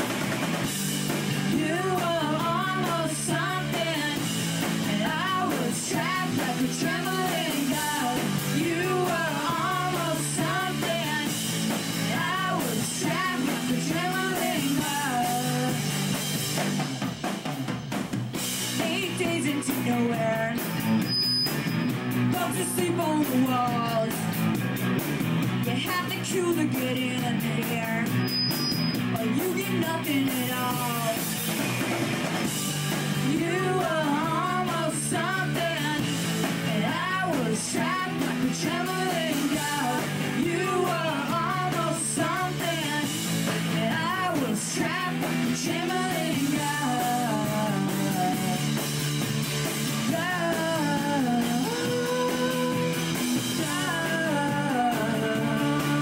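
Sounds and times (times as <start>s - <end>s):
drum kit: 0.0s - 56.0s
electric guitars: 0.0s - 56.0s
person singing: 1.4s - 16.0s, 18.8s - 20.8s, 22.3s - 24.3s, 25.6s - 28.2s, 29.0s - 31.3s, 33.2s - 49.0s, 50.0s - 56.0s.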